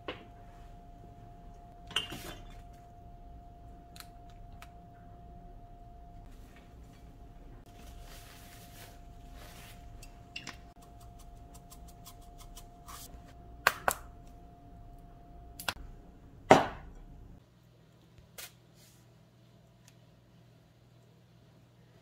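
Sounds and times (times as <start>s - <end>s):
faint hum: 0.0s - 18.2s.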